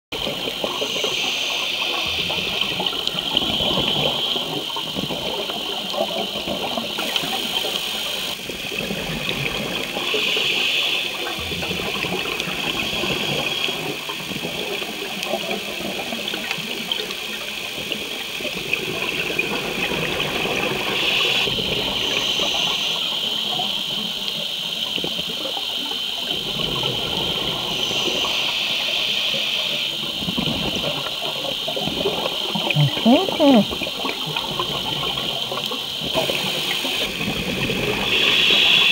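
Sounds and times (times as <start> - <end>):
underwater bubbling water: 0.2 - 38.9.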